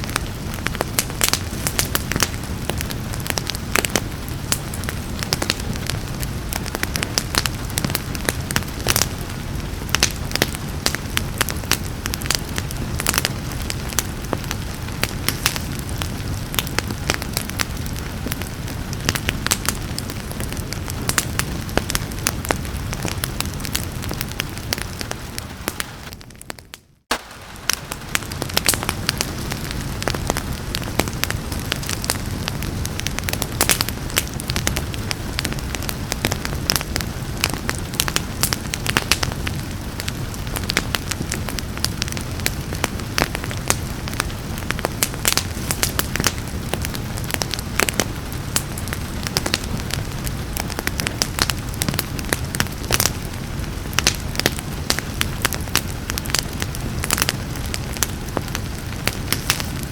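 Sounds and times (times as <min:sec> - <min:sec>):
rain hiss: 0:00.0 - 0:26.1, 0:27.1 - 0:59.9
wood fire crackling and popping: 0:00.0 - 0:59.9.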